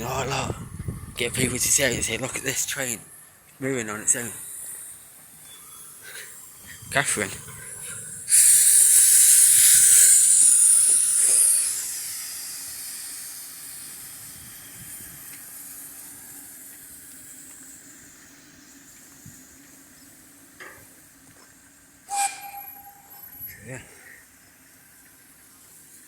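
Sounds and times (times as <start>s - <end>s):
steam locomotive hissing steam: 0.0s - 26.0s.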